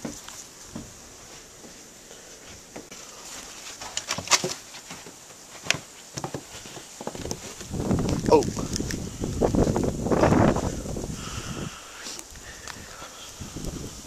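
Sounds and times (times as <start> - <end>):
footsteps crunching in snow: 0.0 - 11.4.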